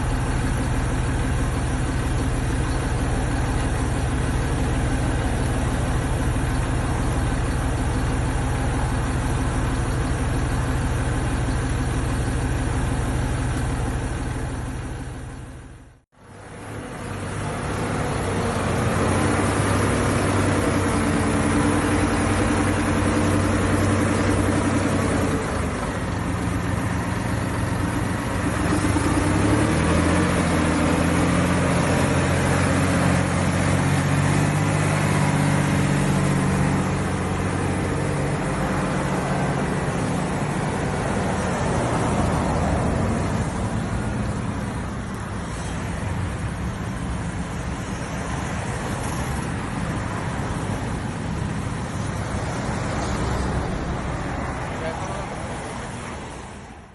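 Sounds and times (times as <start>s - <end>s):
tractor diesel engine: 0.0s - 56.9s.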